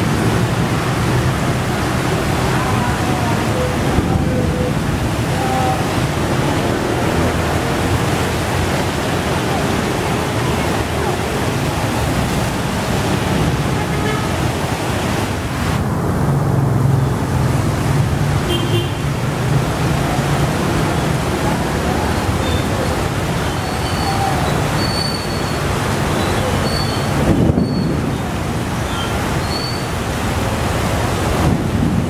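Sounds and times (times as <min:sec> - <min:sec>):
heavy rain: 0:00.0 - 0:32.0
traffic passing: 0:00.0 - 0:32.0
wind: 0:00.0 - 0:32.0.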